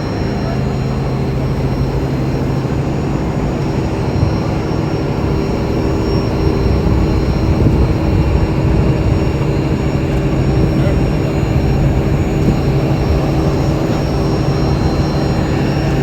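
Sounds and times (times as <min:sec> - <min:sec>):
heavy diesel machinery humming: 0:00.0 - 0:16.0.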